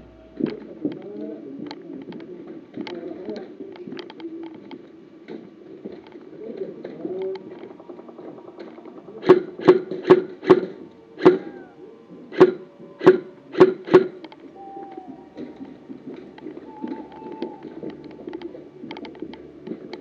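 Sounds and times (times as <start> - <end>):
quiet rustling: 0.0 - 20.0.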